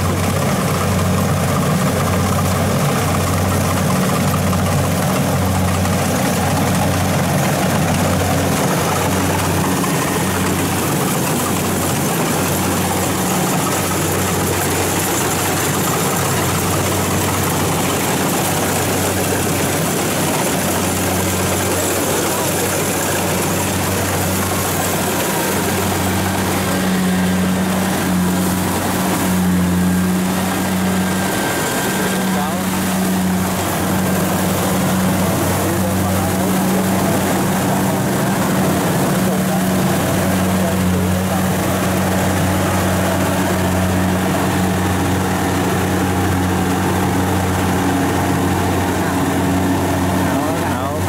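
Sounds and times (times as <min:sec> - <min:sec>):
diesel engine droning: 0:00.0 - 0:51.0.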